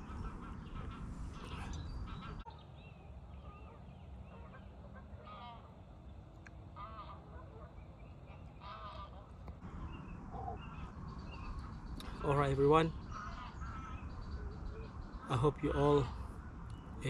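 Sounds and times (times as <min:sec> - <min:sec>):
geese honking: 0:00.0 - 0:02.5, 0:03.4 - 0:05.8, 0:06.8 - 0:16.6
low background rumble: 0:00.0 - 0:17.0.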